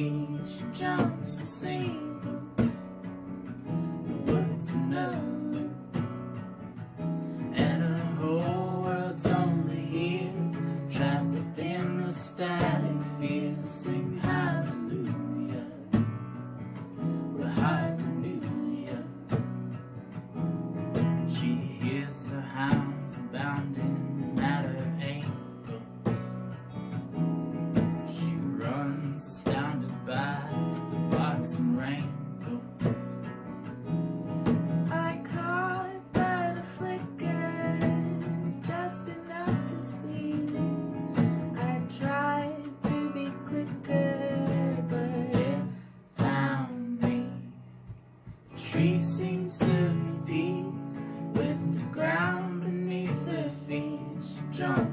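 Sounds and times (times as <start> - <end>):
person singing: 0.0 - 3.0, 3.8 - 6.1, 7.2 - 16.1, 17.0 - 19.4, 20.9 - 26.4, 27.8 - 33.3, 34.5 - 47.7, 48.5 - 54.9
acoustic guitar strumming: 0.0 - 54.9.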